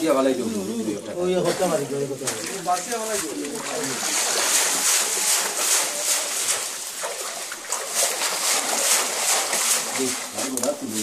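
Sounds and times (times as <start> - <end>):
shallow water splashing: 0.4 - 11.0.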